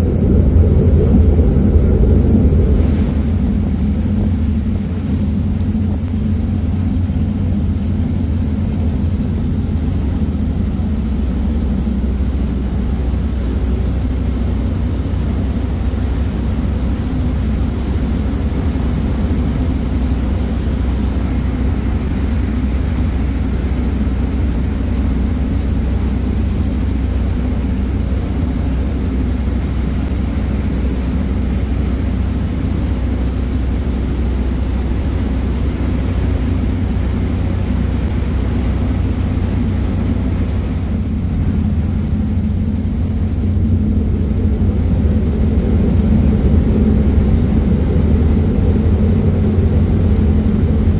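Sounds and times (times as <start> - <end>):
ferry engines droning: 0.0 - 50.9
rushing churning wake: 0.0 - 50.9.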